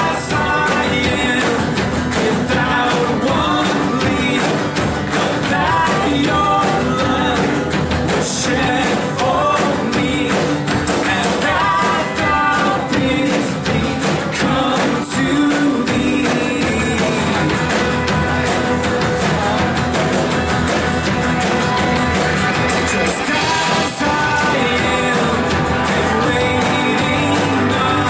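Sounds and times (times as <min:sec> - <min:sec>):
lead singers singing: 0:00.0 - 0:28.0
steady drum beat: 0:00.0 - 0:28.0
worship band playing: 0:00.0 - 0:28.0.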